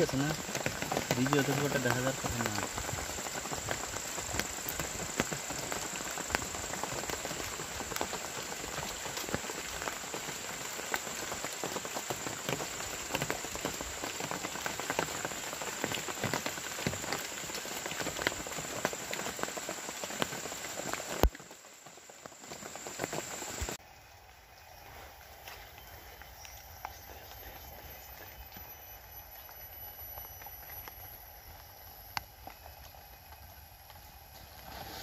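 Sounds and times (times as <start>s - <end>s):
rain pattering on foliage: 0.0s - 35.0s.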